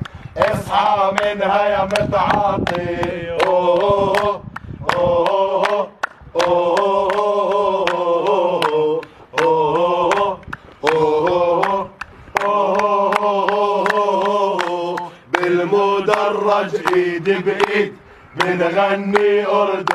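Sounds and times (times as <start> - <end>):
hand claps: 0.0 - 19.9
men chanting in unison: 0.3 - 19.9.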